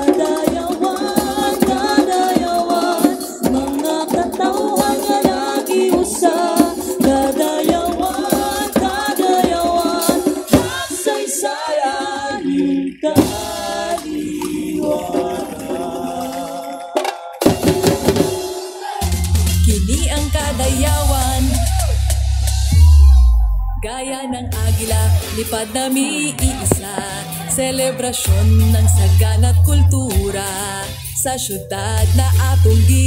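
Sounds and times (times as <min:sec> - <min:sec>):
steady percussion beat: 0:00.0 - 0:11.4, 0:13.1 - 0:23.4, 0:24.5 - 0:31.2
group of voices singing: 0:00.0 - 0:33.0.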